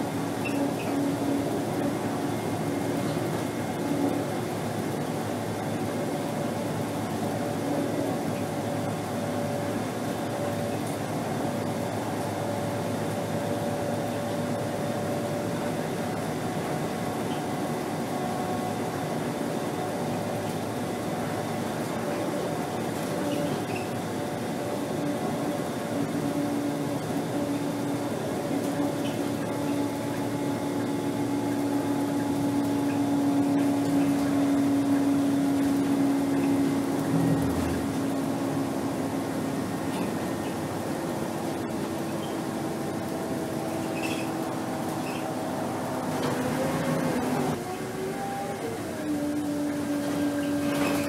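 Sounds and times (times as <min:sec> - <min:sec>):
bus engine hum: 0:00.0 - 0:51.0.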